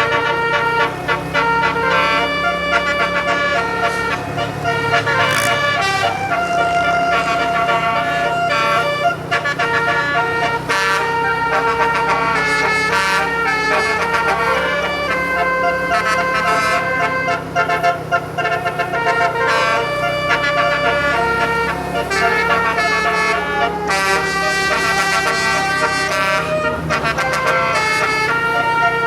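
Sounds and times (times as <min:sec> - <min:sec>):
bus horn playing a melody: 0:00.0 - 0:29.0.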